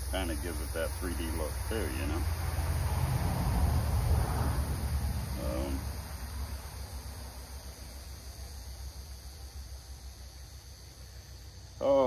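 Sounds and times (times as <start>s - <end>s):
high insect chirring: 0.0s - 12.0s.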